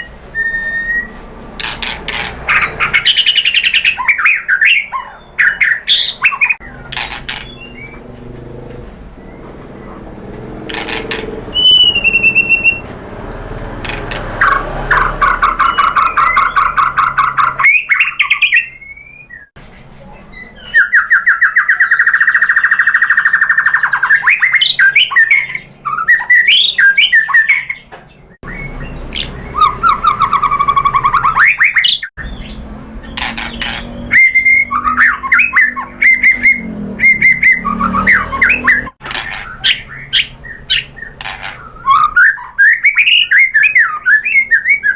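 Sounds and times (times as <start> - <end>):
songbird singing whistles and trills: 0.0 - 1.3, 2.2 - 10.2, 11.4 - 13.8, 14.4 - 44.9.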